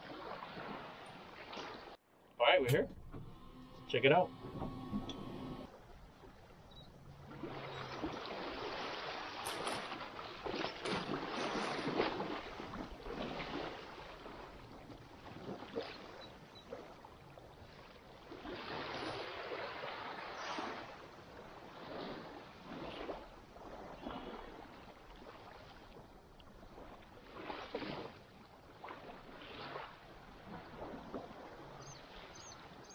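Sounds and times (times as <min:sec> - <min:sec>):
water lapping and splashing: 0:00.0 - 0:32.9.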